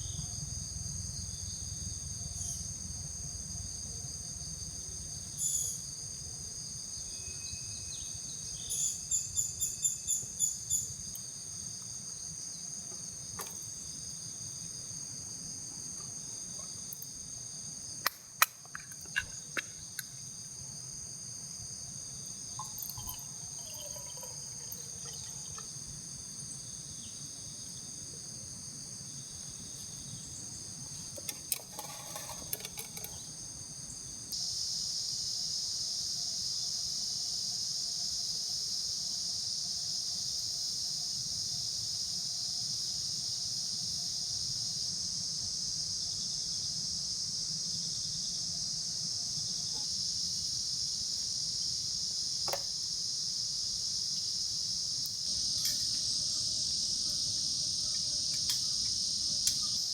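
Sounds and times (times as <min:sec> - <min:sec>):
shrill insect chorus: 0:00.0 - 0:59.9.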